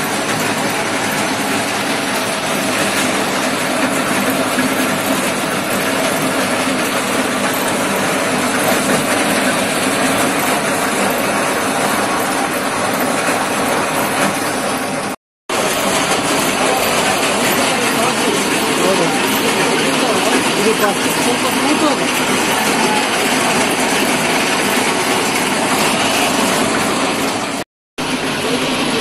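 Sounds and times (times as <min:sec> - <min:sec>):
peeling machine running: 0:00.0 - 0:29.0.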